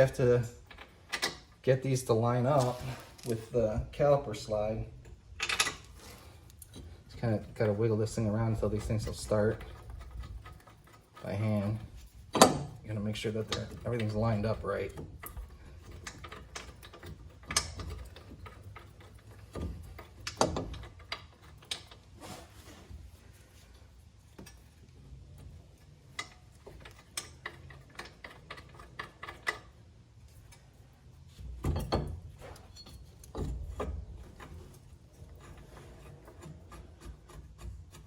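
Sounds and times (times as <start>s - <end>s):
metal clicks and knocks: 0.0s - 1.6s, 4.9s - 22.1s, 25.3s - 30.7s, 31.4s - 38.0s.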